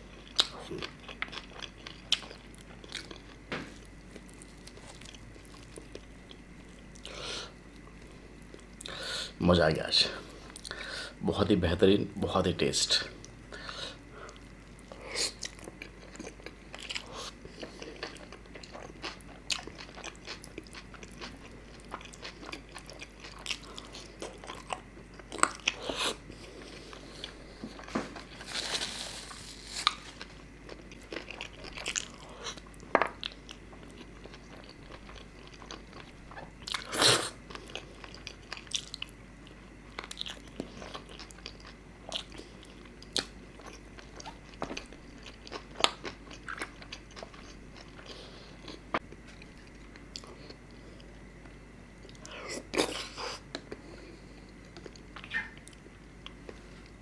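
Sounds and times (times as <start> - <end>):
man chewing food: 0.0 - 9.4, 10.1 - 11.2, 13.1 - 57.0.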